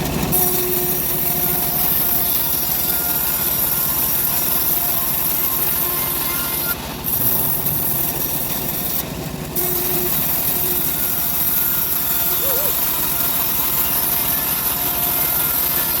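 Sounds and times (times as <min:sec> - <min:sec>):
bandsaw cutting log: 0:00.0 - 0:16.0.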